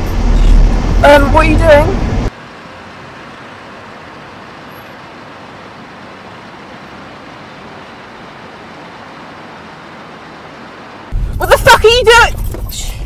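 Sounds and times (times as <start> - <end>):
vehicle hiss and rumble: 0.0 - 13.0.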